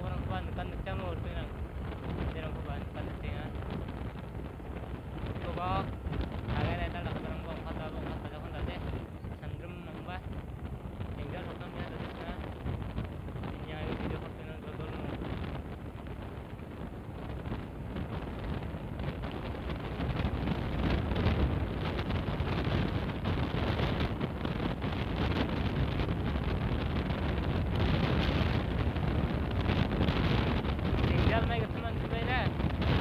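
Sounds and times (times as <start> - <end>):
motorcycle engine and road noise: 0.0 - 33.0
wind rushing over microphone: 0.0 - 33.0.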